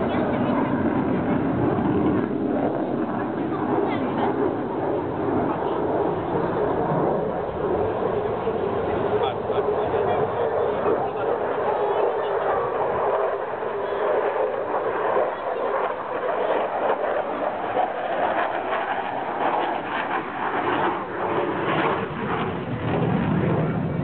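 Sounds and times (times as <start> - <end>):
jet engines rushing in flight: 0.0 - 24.0.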